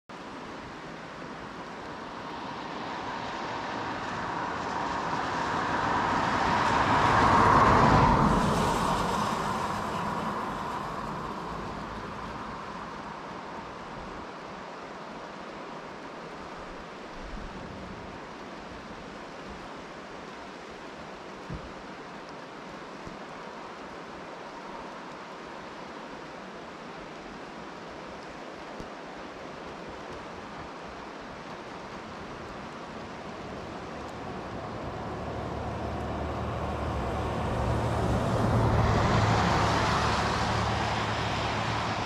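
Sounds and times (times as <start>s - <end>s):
rain: 0.0s - 42.0s
river rushing: 0.1s - 42.0s
tyres hissing on wet road: 0.2s - 17.3s, 18.2s - 42.0s.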